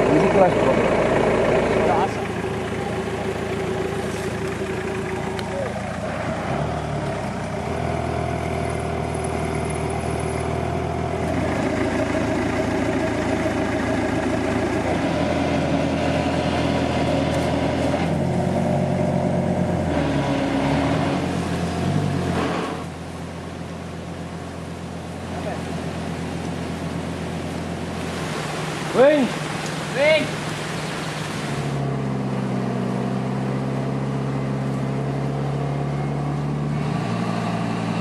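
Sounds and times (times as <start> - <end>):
engine revving: 0.0 - 23.0, 27.2 - 38.0.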